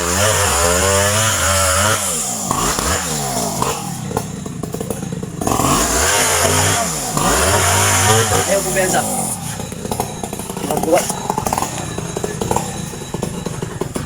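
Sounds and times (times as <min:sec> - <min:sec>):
chainsaw engine revving and idling: 0:00.0 - 0:14.0.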